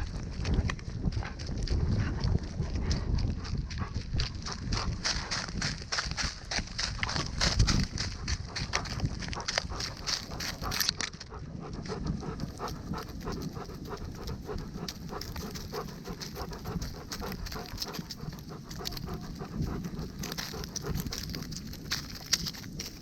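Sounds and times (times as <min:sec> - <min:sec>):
camera clicks and rumble: 0:00.0 - 0:02.4, 0:06.2 - 0:23.0
dog panting: 0:01.1 - 0:23.0.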